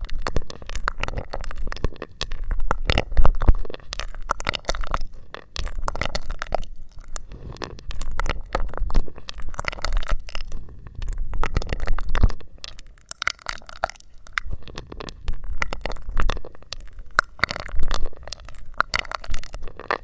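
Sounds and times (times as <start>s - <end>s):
wet mouth clicks and smacks: 0.0s - 20.0s.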